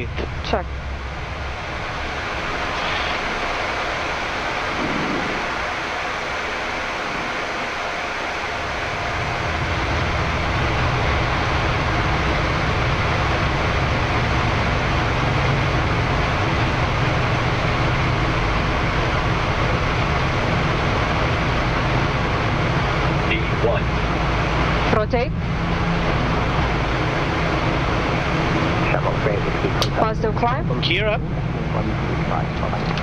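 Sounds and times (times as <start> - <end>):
airflow and engine roar in cockpit: 0.0 - 33.0.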